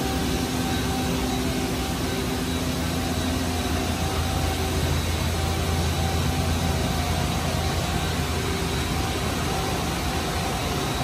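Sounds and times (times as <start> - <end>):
machine-shop hum: 0.0 - 11.0.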